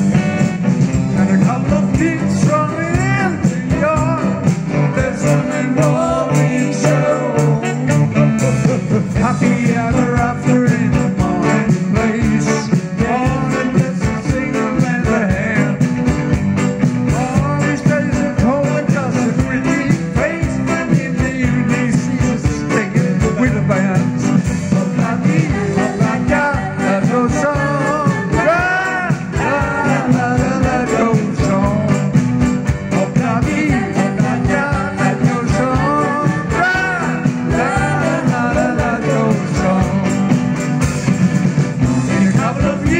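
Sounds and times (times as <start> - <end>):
live band playing: 0.0 - 42.9
person singing: 1.1 - 16.0, 17.1 - 32.1, 32.9 - 40.4, 41.9 - 42.9.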